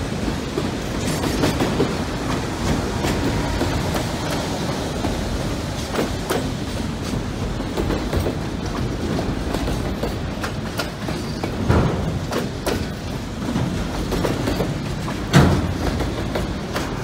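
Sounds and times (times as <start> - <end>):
train wheels clacking: 0.0 - 17.0
train wheels rumbling on rails: 0.0 - 17.0.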